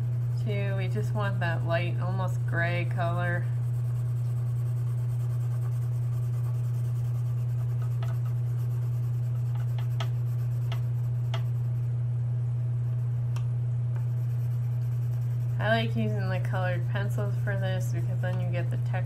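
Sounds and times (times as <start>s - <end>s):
pencil shading on paper: 0.0s - 11.8s, 14.0s - 18.8s
steady low hum: 0.0s - 19.0s.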